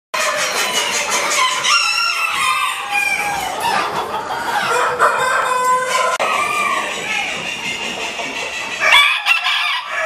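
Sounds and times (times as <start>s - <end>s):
chickens crowing and clucking: 0.2s - 10.0s.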